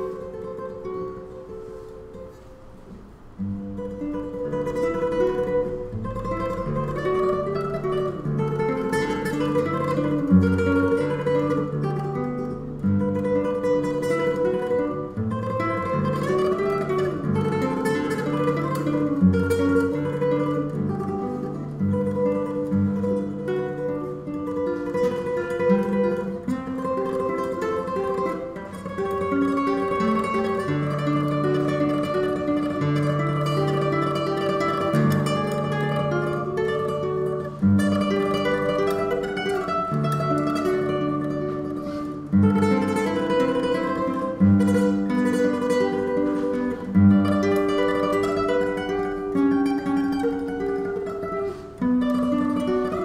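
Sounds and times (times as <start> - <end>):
classical guitar playing: 0.0 - 53.0.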